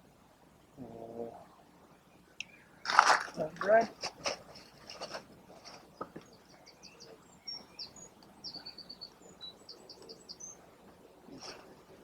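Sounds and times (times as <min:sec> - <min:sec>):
small birds chirping: 0:02.0 - 0:12.0.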